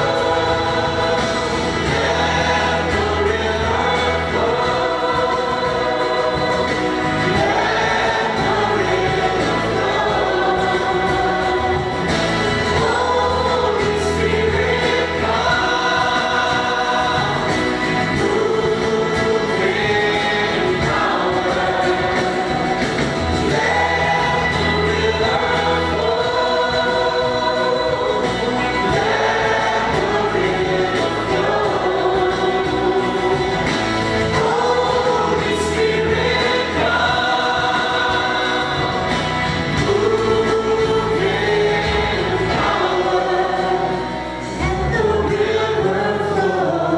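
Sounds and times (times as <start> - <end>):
accompaniment with bass line: 0.0 - 46.9
group singing gospel song: 0.0 - 46.9.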